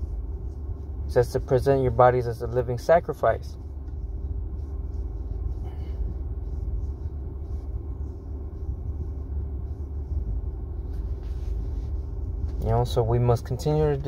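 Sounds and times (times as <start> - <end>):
faint steady hum: 0.0 - 14.0
low rumble: 0.0 - 14.0.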